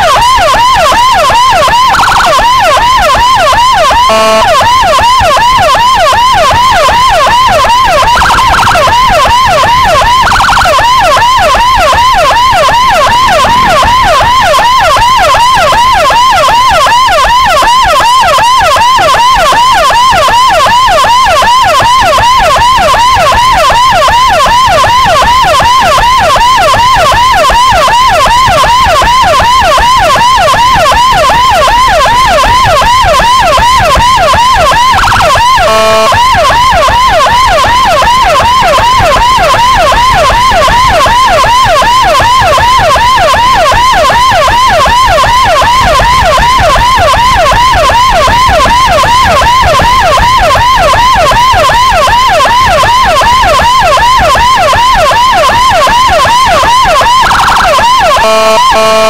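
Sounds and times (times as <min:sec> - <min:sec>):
electronic siren yelping: 0:00.0 - 0:59.0
short steady siren blasts: 0:00.0 - 0:59.0.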